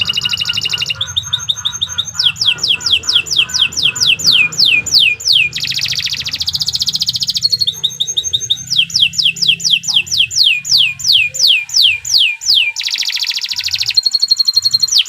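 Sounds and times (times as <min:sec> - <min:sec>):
canary buzzing trill: 0:00.0 - 0:15.0
canary singing: 0:00.0 - 0:15.0.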